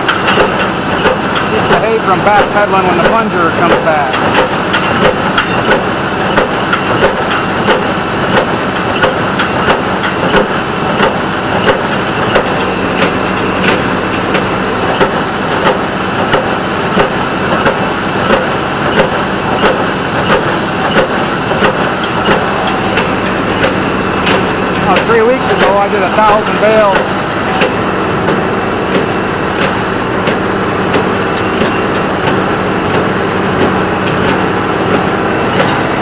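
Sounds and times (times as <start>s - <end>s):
hay baler plunger knocking: 0.0s - 36.0s
tractor engine running: 0.0s - 36.0s.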